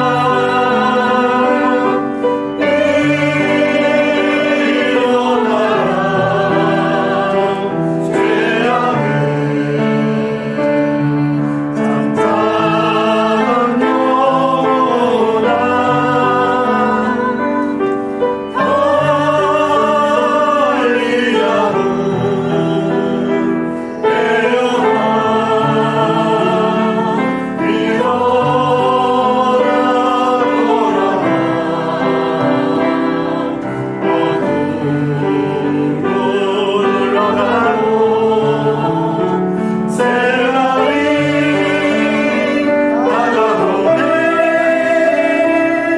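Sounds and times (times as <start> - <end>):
group singing worship song: 0.0 - 45.9
instrumental accompaniment: 0.0 - 45.9.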